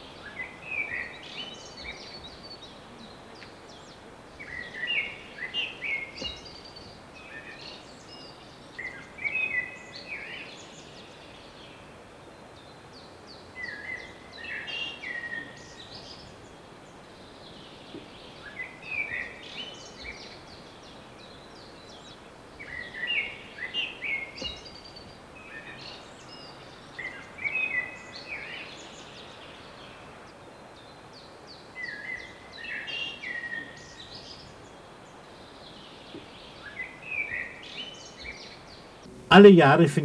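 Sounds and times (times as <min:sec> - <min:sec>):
faint outdoor hiss: 0:00.0 - 0:40.0
songbird chirping: 0:00.0 - 0:40.0.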